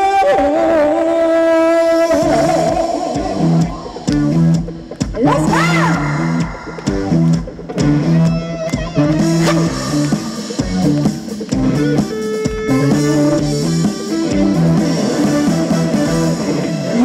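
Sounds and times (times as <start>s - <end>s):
bass: 0.0s - 17.0s
electric guitar melody: 0.0s - 17.0s
drum kit steady beat: 2.1s - 17.0s.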